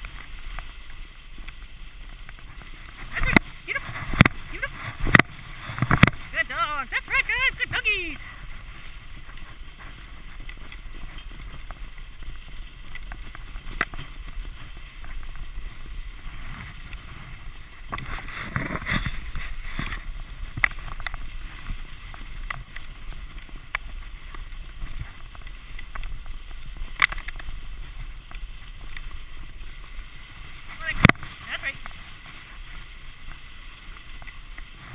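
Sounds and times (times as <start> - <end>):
sled runners hissing over snow: 0.0 - 34.9.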